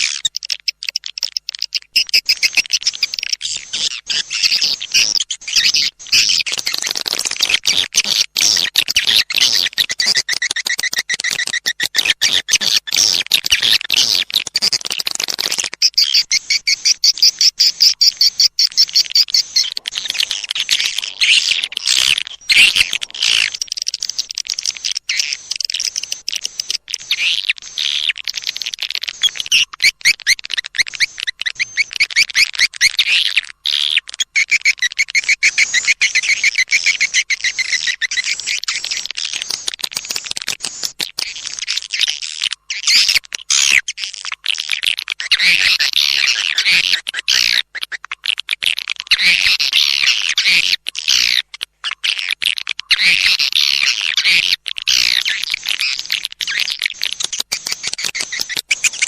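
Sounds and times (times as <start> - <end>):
swiftlet chirps twittering: 0.0 - 41.8, 52.8 - 59.0.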